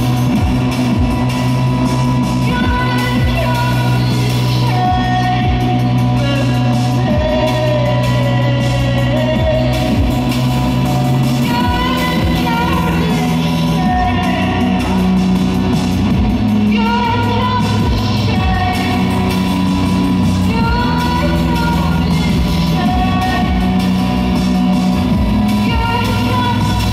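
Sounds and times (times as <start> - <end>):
person singing: 0.0 - 26.9
rock band playing live: 0.0 - 26.9.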